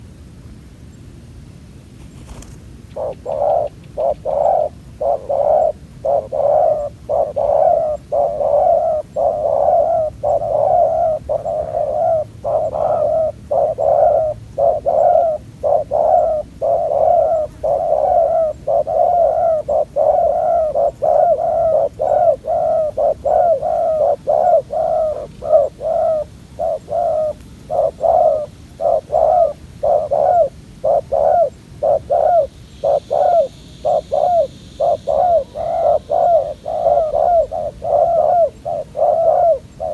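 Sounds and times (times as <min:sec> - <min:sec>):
dove cooing: 0:02.3 - 0:39.9.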